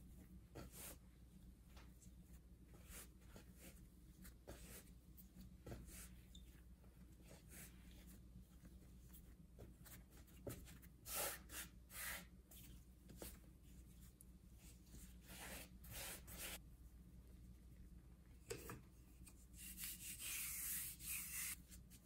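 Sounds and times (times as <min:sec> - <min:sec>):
hands kneading dough: 0:00.0 - 0:17.9.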